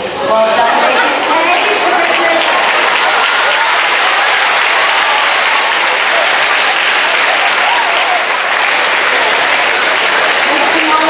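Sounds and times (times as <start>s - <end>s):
voices shouting: 0.0s - 11.0s
audience applauding and cheering: 0.7s - 11.0s.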